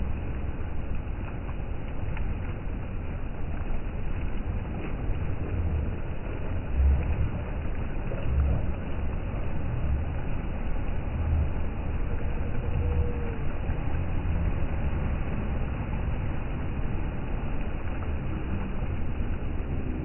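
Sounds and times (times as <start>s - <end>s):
sea washing: 0.0s - 20.0s.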